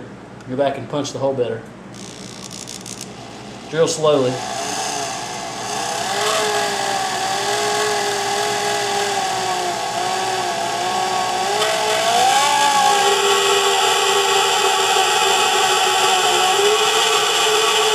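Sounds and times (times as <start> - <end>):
power drill whining: 2.0 - 3.4, 4.0 - 17.9.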